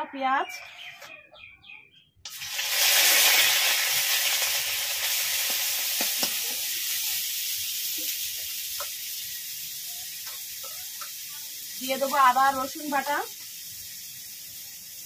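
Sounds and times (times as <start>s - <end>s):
onion sizzling in hot oil: 2.3s - 15.0s.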